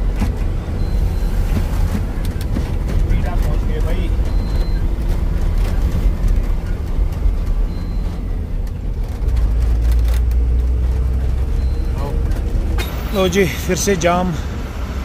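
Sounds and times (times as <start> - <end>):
road rumble: 0.0 - 15.0
truck engine running: 0.0 - 15.0.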